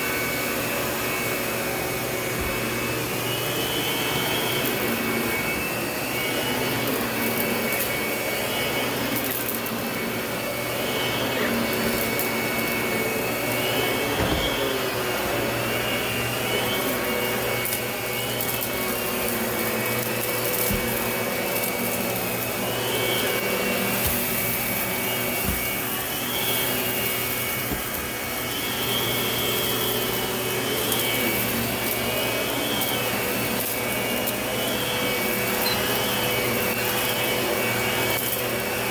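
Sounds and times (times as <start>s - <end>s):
vacuum cleaner whine: 0.0s - 38.9s.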